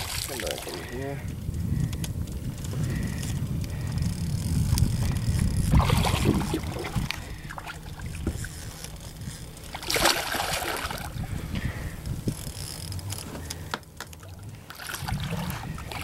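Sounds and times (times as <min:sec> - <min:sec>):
low rumble: 0:01.2 - 0:16.0.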